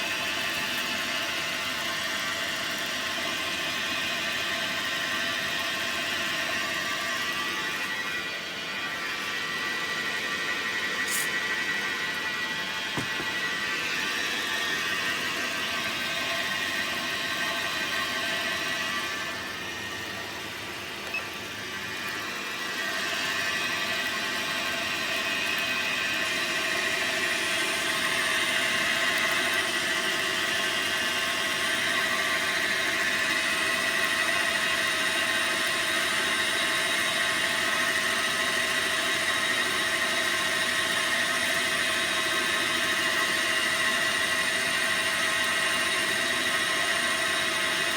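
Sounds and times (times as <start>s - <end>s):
lathe motors whining: 0.0s - 47.9s.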